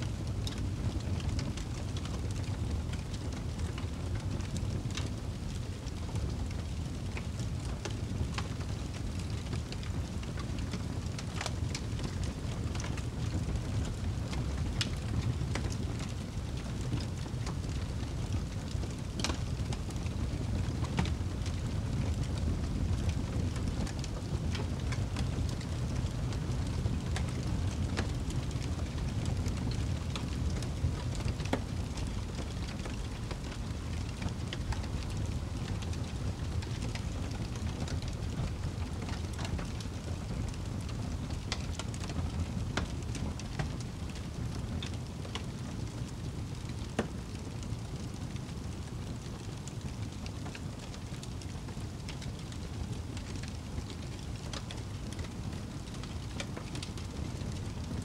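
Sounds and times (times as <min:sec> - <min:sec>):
fireplace fire crackling: 0:00.0 - 0:58.0
low rumble of flame: 0:00.0 - 0:58.0.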